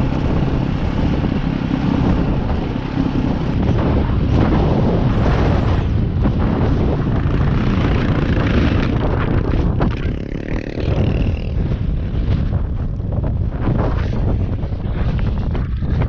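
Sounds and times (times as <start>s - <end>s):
dirt bike engine running: 0.0s - 16.0s
wind buffeting microphone: 0.0s - 16.0s.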